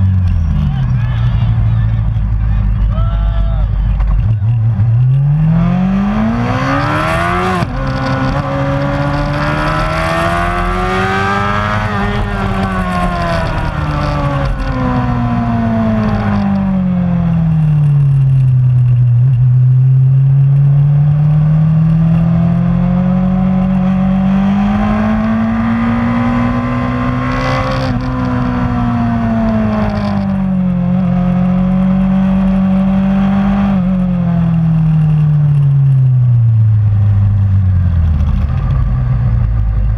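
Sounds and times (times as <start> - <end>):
racing motorcycle engine revving: 3.7 - 39.9.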